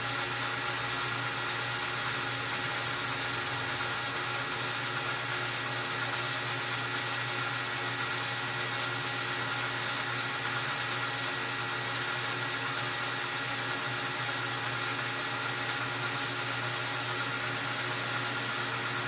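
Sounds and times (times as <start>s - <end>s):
metal lathe hum and whine: 0.0s - 19.0s.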